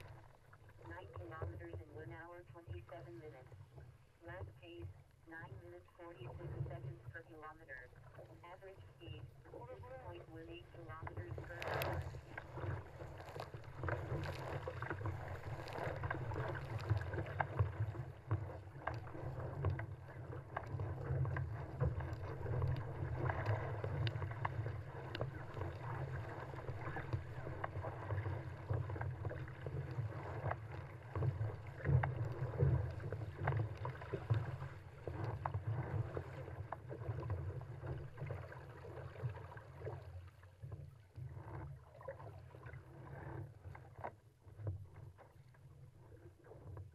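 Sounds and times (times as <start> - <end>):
water rushing and splashing: 0.0 - 44.1.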